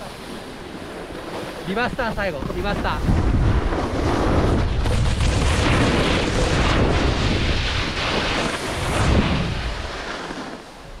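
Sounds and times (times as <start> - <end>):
wind buffeting microphone: 0.0 - 10.1
snowboard edges hissing on snow: 0.0 - 11.0.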